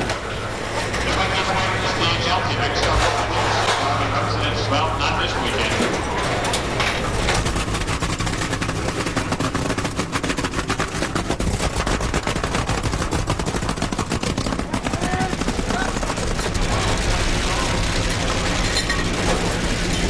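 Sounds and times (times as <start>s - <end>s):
drag racing engines crackling: 0.0s - 20.0s.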